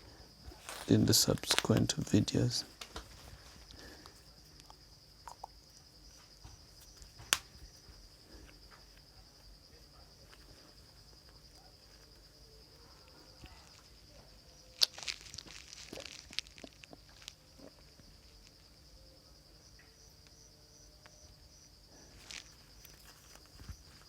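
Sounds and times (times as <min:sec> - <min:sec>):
insect trilling: 0:00.0 - 0:24.0.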